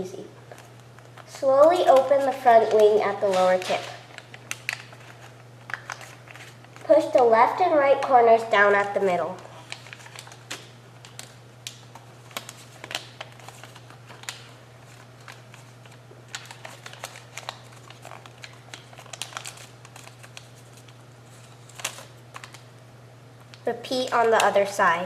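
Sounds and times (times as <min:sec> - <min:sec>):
steady low hum: 0:00.0 - 0:25.0
paper crinkling and creasing: 0:00.4 - 0:07.4, 0:08.0 - 0:22.7, 0:23.6 - 0:25.0.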